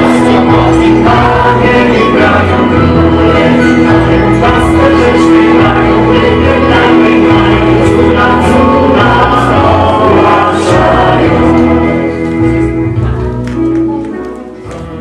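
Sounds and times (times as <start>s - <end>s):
choir singing: 0.0s - 12.8s
instrumental accompaniment: 0.0s - 15.0s.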